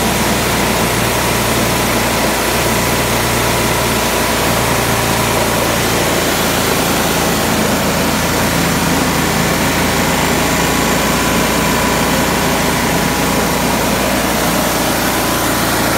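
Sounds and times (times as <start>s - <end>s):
coffee huller machine noise: 0.0s - 15.9s
petrol engine running: 0.0s - 15.9s.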